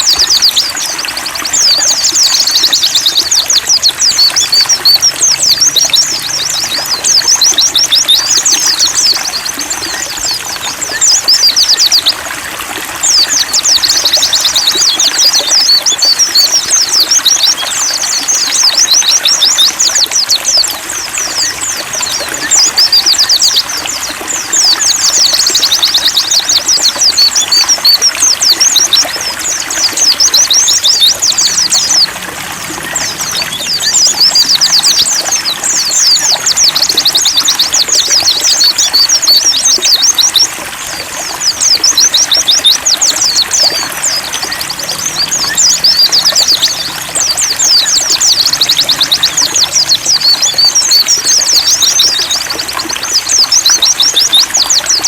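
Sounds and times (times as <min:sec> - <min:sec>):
birds high twittering song: 0:00.0 - 0:55.0
trickling water: 0:00.0 - 0:55.0.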